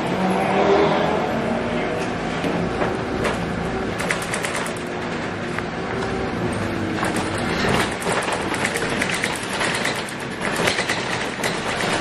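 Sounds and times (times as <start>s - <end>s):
diesel bus engine running: 0.0s - 12.0s
bus body rattling and clicking: 2.0s - 12.0s.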